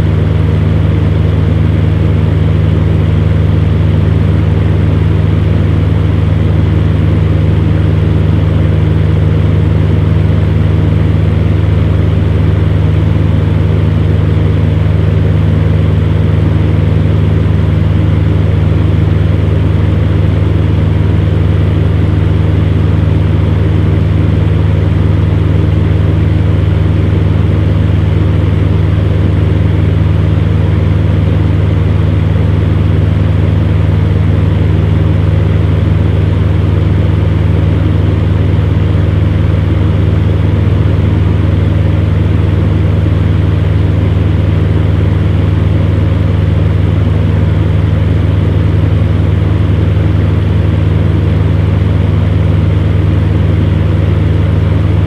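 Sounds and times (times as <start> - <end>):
fan heater humming: 0.0 - 55.0.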